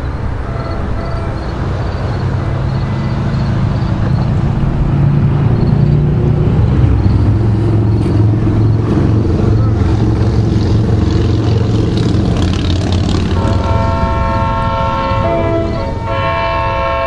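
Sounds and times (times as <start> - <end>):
diesel locomotive engine hum: 0.0 - 17.0.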